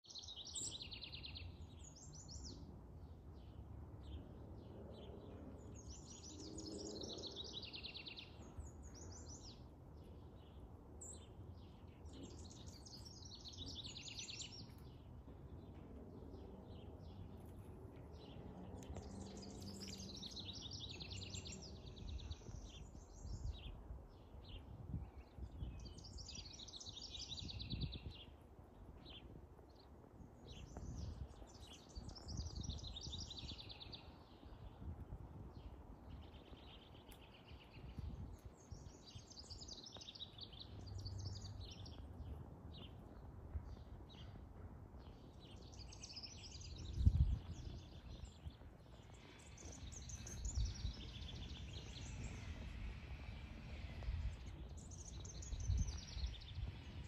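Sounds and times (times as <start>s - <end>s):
songbirds trilling: 0.2s - 28.4s, 35.5s - 57.0s.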